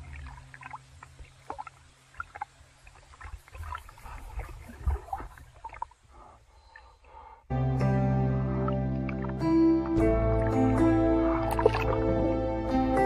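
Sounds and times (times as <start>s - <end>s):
sea water sloshing and splashing: 0.0s - 7.1s, 8.7s - 12.2s.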